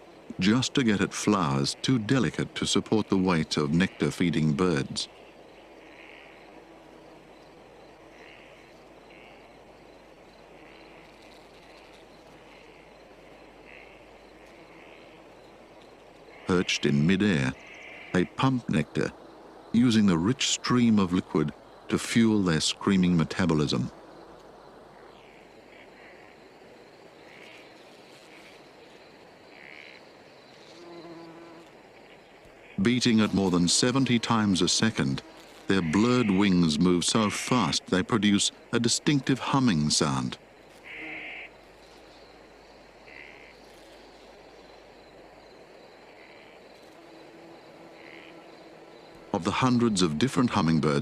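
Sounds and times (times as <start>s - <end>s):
insects chirping: 0.0s - 51.0s
low steady hiss: 0.0s - 51.0s.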